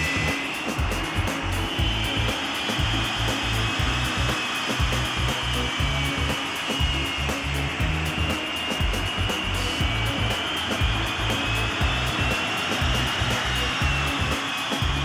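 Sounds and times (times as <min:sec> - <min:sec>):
jet engine whine: 0:00.0 - 0:15.0
rushing jet exhaust: 0:00.0 - 0:15.0.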